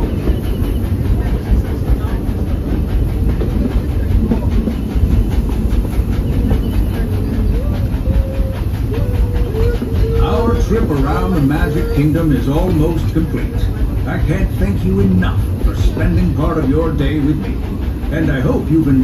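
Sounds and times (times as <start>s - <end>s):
rhythmic wheel clatter: 0.0s - 19.0s
train wheels rumbling on track: 0.0s - 19.0s.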